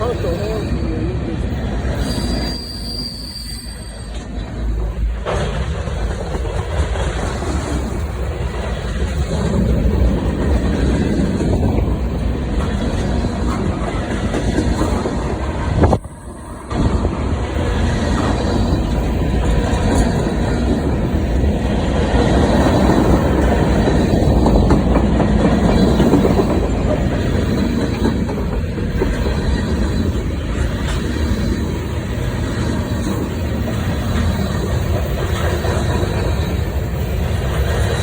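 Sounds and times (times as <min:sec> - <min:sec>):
freight train wheels on rail: 0:00.0 - 0:38.0.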